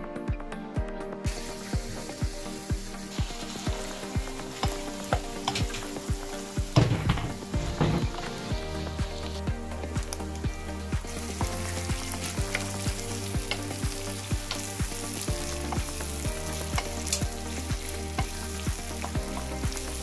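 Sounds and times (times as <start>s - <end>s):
background music with steady beat: 0.0s - 20.0s
beans sizzling in oil: 1.3s - 20.0s.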